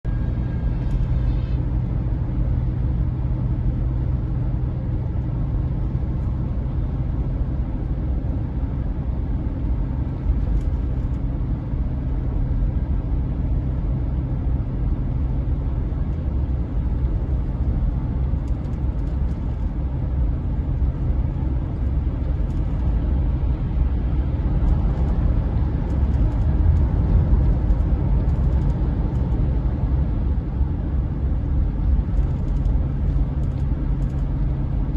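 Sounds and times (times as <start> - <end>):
low rumble: 0.0 - 34.9.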